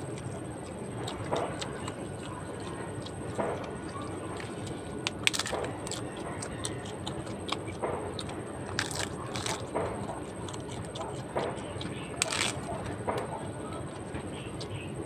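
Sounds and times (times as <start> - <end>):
leaves crunching when bitten: 0.0 - 13.3
lip smacks and chewing: 0.0 - 15.0.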